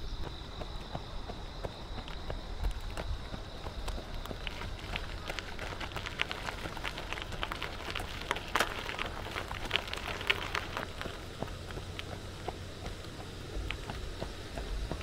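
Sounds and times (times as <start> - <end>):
running footsteps on gravel: 0.0 - 15.0
steady low rumble: 0.0 - 15.0.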